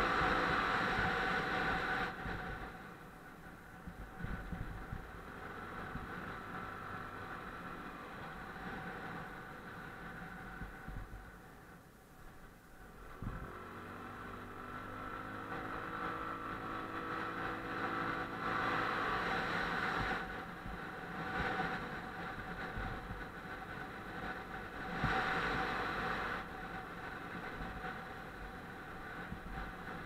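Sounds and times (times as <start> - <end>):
motorcycle engine accelerating: 0.0 - 3.0, 3.7 - 11.3, 13.0 - 30.0.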